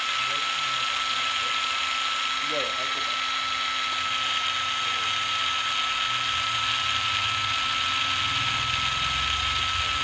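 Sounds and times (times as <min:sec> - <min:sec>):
impact driver motor whine: 0:00.0 - 0:10.0.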